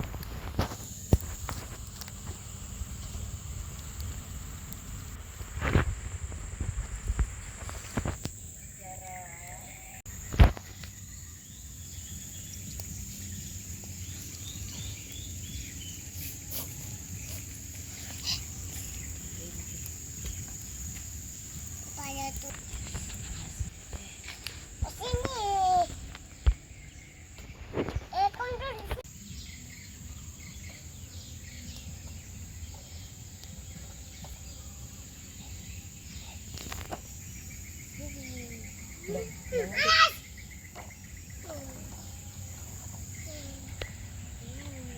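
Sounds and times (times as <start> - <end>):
faint chirps: 0.0 - 44.9
high insect drone: 0.0 - 44.9.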